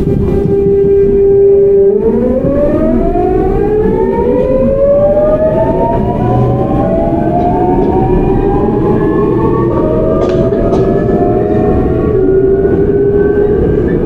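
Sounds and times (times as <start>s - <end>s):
train inverter whining: 0.0s - 14.0s.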